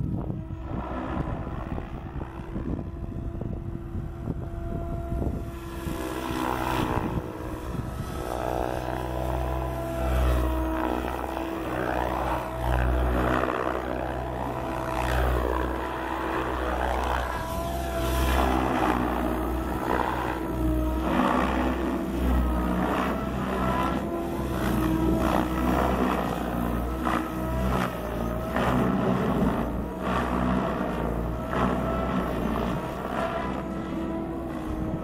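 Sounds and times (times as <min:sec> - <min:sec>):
rc helicopter motor whine: 0:00.0 - 0:35.0.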